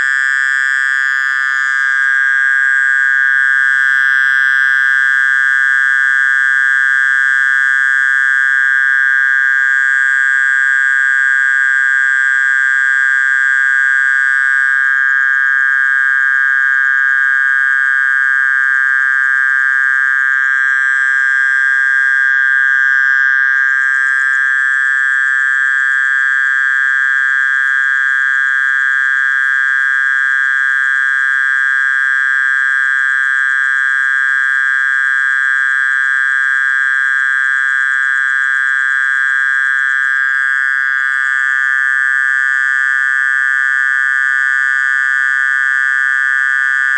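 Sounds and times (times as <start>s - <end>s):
cricket buzzing trill: 0.0s - 46.9s.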